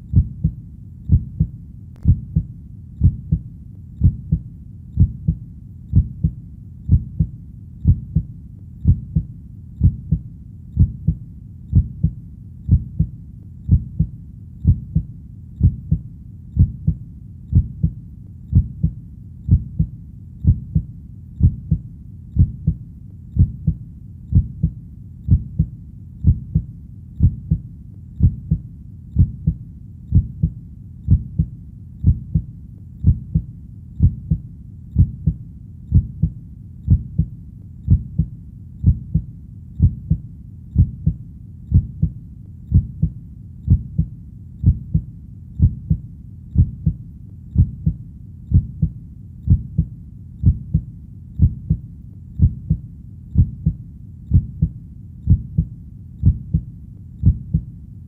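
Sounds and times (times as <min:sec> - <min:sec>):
heartbeat thumps: 0:00.0 - 0:04.4, 0:05.0 - 0:28.6, 0:29.2 - 0:57.7
faint low rumble: 0:00.0 - 0:58.0.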